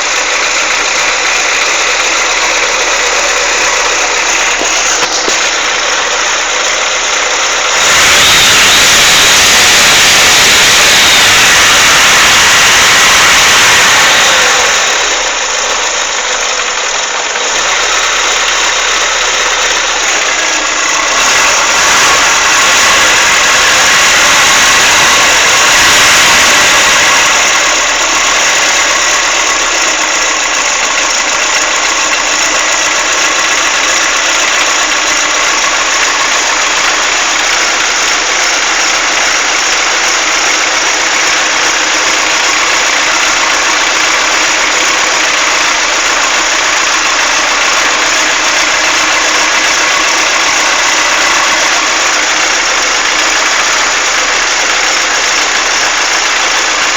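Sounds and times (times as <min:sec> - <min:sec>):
car engine idling: 0:00.0 - 0:56.9
engine ticking noise: 0:00.0 - 0:56.9.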